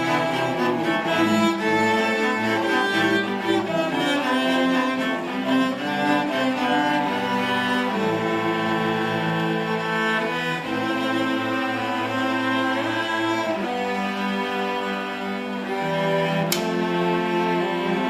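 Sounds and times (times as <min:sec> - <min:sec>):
string orchestra playing: 0:00.0 - 0:18.0.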